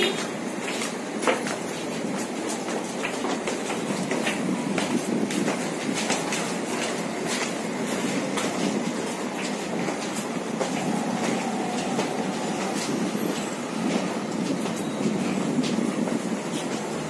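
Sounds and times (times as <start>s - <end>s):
railway wagon rumble: 0.0s - 17.0s
steel wheels clicking on rails: 0.0s - 17.0s.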